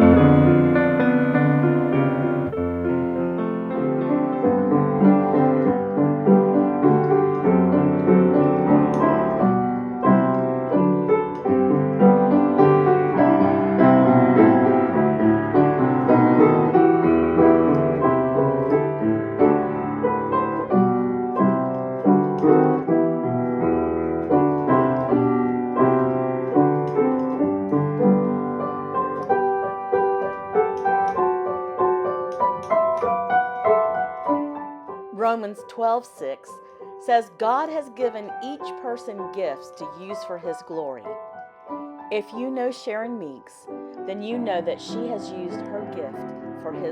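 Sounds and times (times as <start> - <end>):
solo piano music: 0.0 - 46.9.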